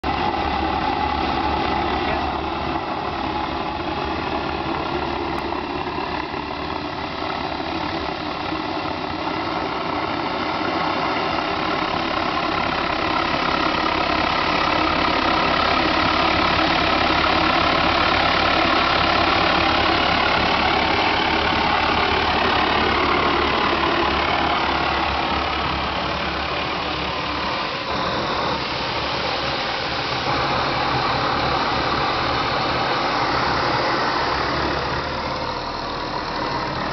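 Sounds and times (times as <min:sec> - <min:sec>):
turbojet engine rushing: 0:00.0 - 0:36.9.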